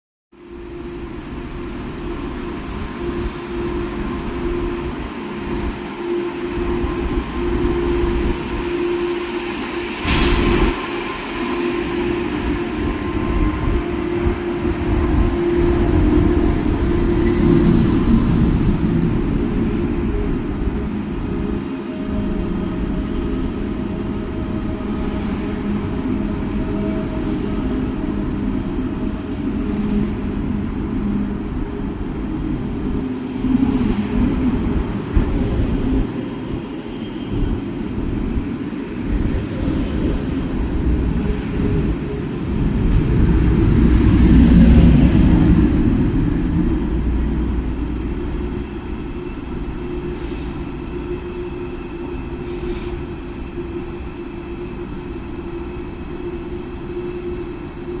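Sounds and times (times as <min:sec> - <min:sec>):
train rumbling: 0:00.4 - 0:58.0.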